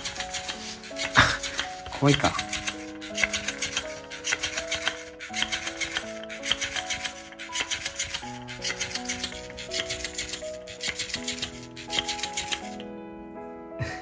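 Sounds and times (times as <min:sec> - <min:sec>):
light background music: 0:00.0 - 0:14.0.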